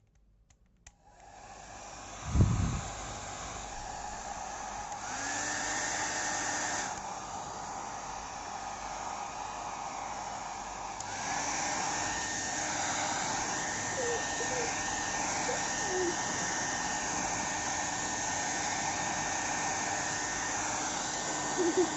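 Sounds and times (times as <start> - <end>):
hair dryer blowing: 1.0 - 21.9.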